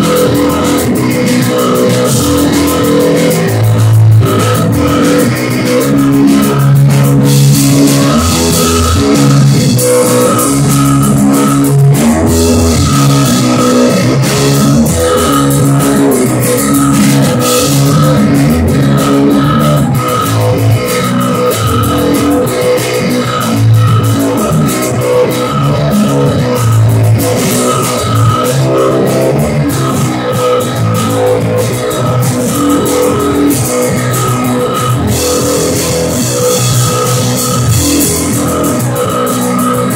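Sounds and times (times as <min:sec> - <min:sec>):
drum kit beat: 0:00.0 - 0:39.9
electric bass: 0:00.0 - 0:39.9
electric guitar riff: 0:00.0 - 0:39.9.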